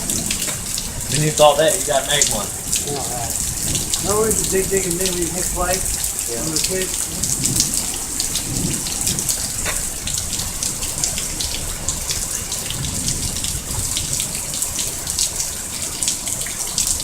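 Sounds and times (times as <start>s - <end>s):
heavy rain falling: 0.0s - 17.0s
runoff water running on ground: 0.0s - 17.0s.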